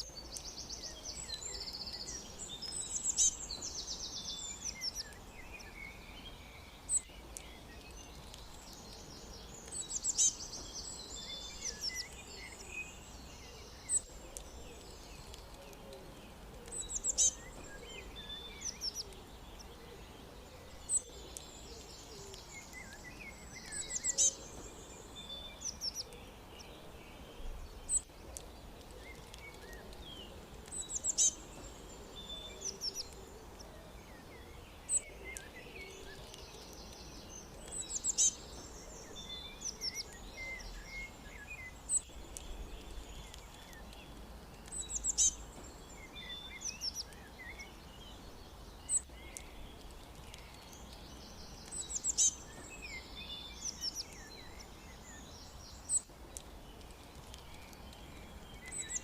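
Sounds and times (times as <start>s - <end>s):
songbirds chirping and trilling: 0.0s - 59.0s
steady background hiss: 0.0s - 59.0s.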